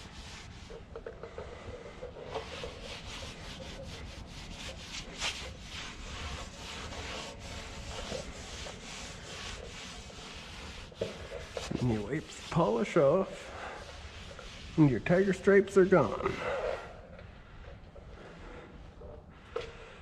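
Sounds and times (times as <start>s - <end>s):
cloth rag rubbing metal tank: 0.0s - 17.0s.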